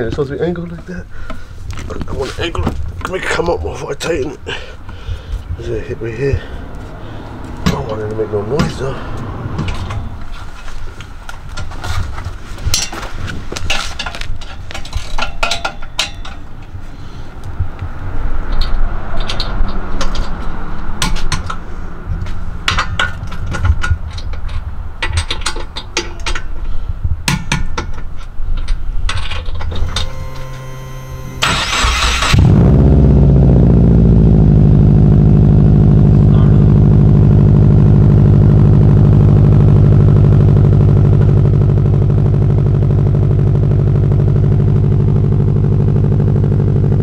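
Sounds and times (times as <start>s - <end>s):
car engine rumble: 0.0s - 47.0s.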